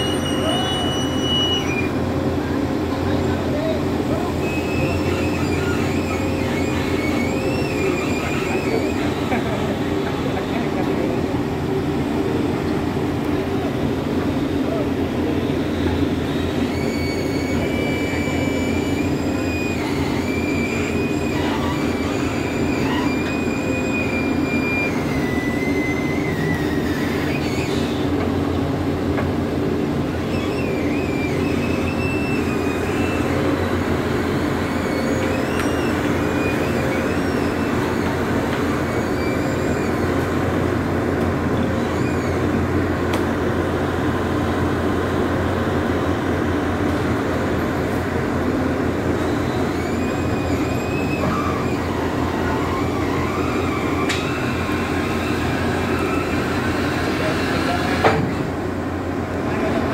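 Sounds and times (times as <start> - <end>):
high squealing whines: 0.0 - 58.5
excavator diesel engine rumble: 0.0 - 59.9.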